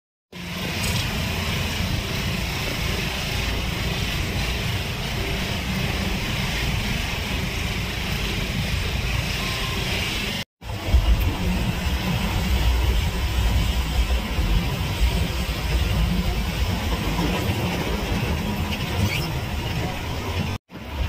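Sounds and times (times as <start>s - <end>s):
heavy rain on car roof: 0.3s - 21.0s
road and engine rumble: 0.3s - 21.0s.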